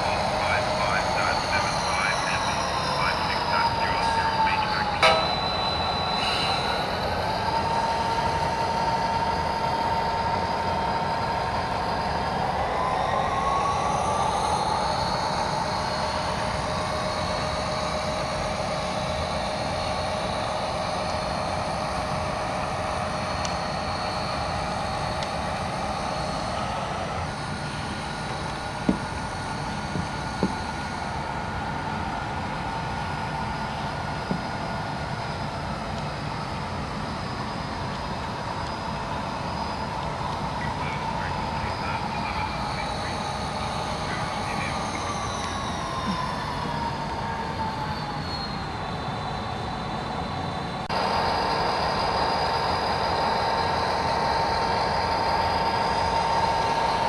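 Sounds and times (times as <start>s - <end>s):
model locomotive engine drone: 0.0s - 57.0s.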